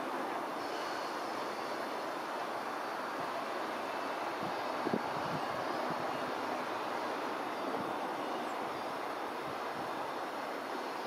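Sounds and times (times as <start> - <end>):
diesel railcar engine idling: 0.0 - 11.0.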